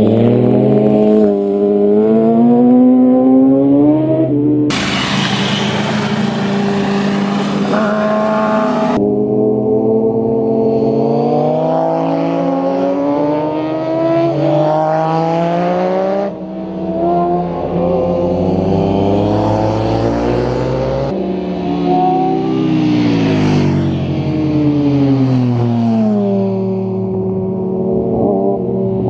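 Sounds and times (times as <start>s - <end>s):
motorcycle engines revving: 0.0s - 9.1s, 10.0s - 29.0s.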